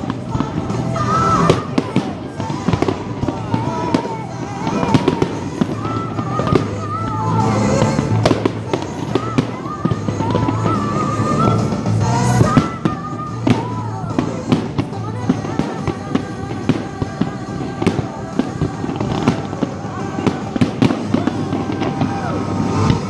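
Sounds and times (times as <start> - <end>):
fireworks bangs and pops: 0.0 - 23.0
music: 0.0 - 23.0.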